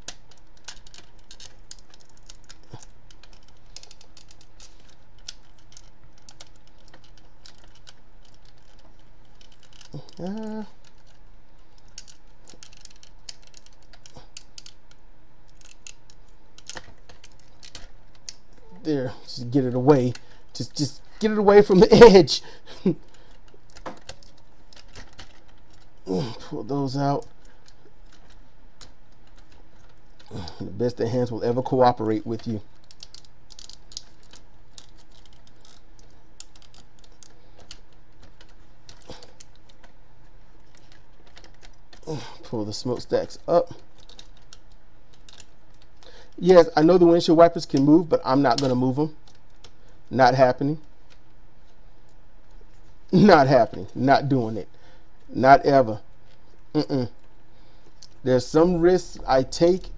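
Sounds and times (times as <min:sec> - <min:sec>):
plastic toy parts clicking: 0:00.0 - 0:18.7, 0:22.8 - 0:54.0, 0:55.2 - 0:59.9.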